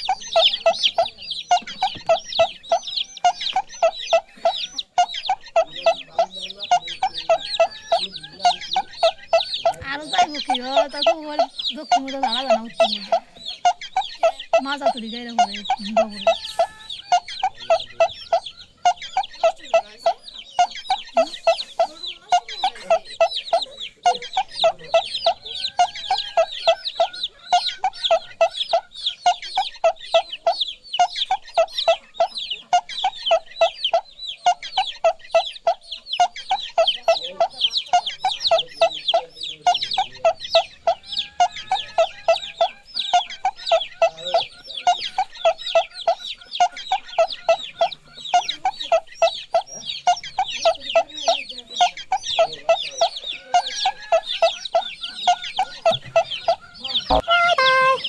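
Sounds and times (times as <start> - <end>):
chickens clucking: 0.0 - 58.0
chicks peeping: 0.0 - 58.0.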